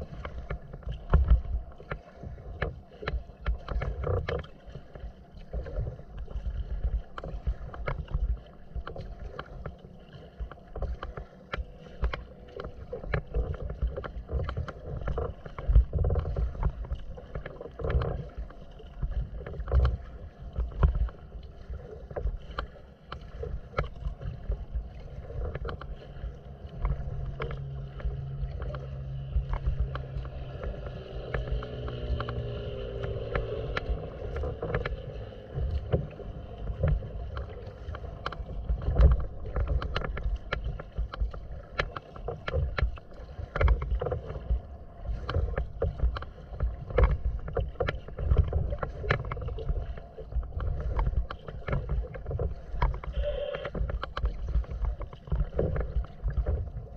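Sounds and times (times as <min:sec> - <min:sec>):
low steady hum: 0:00.0 - 0:56.9
water splashing against kayak hull: 0:00.0 - 0:56.9.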